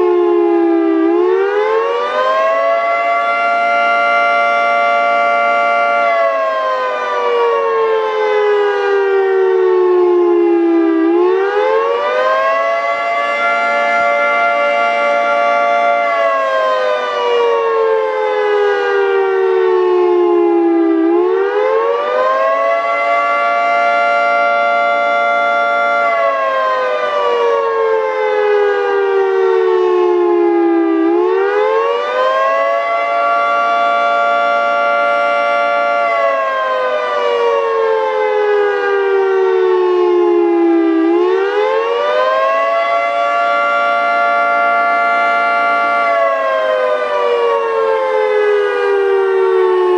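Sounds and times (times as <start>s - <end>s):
warning siren wailing: 0.0s - 49.9s.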